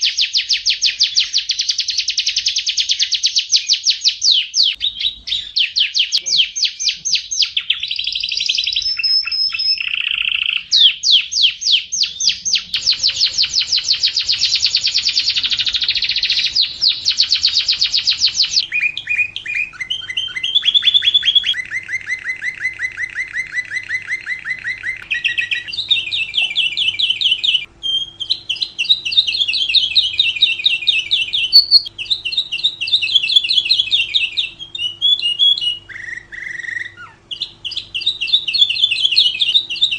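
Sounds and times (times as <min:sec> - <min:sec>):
lovebird trilling: 0:04.3 - 0:39.9.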